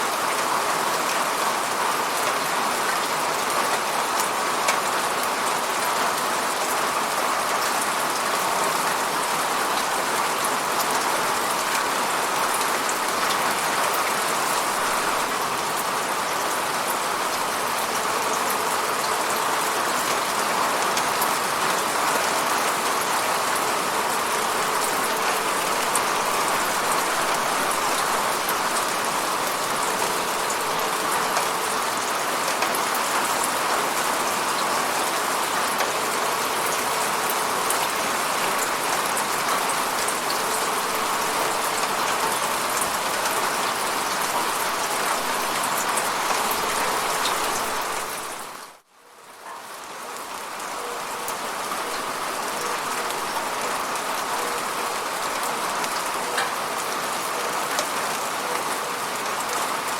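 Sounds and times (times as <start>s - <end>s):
rain pattering on a window: 0.0s - 59.9s.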